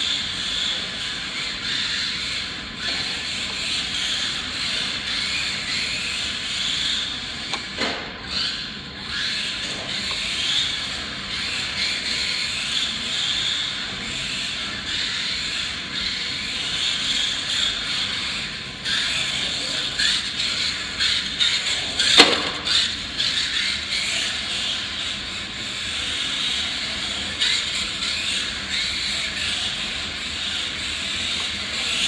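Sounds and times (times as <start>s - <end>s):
toy car electric motor whine: 0.0s - 32.0s.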